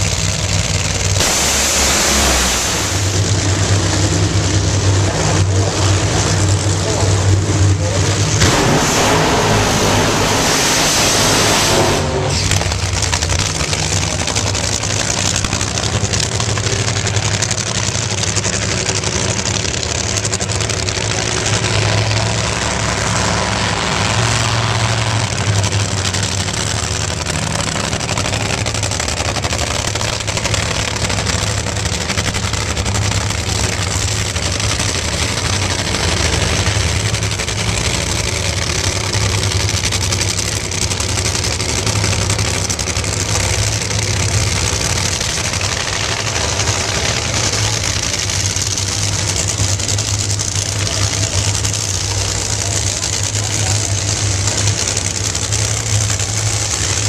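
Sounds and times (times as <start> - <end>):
supercharged engines idling: 0.0 - 57.0.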